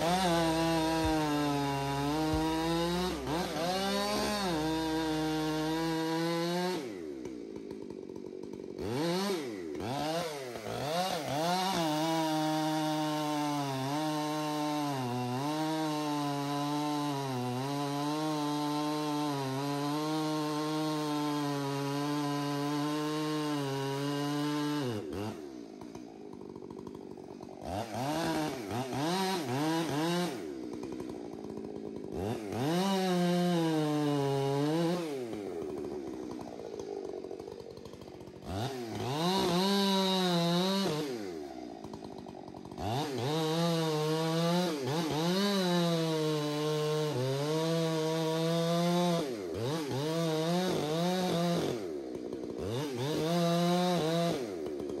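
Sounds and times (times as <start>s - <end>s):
chainsaw revving under load: 0.0s - 55.0s.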